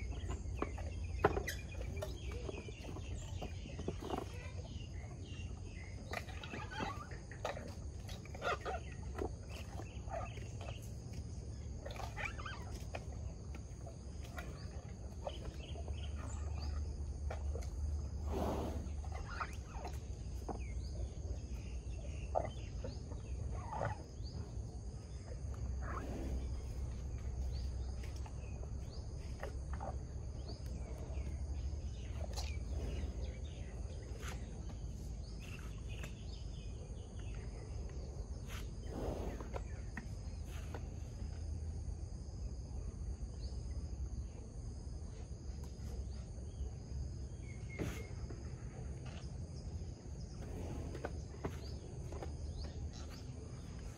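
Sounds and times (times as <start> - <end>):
insects chorus: 0.0 - 53.9.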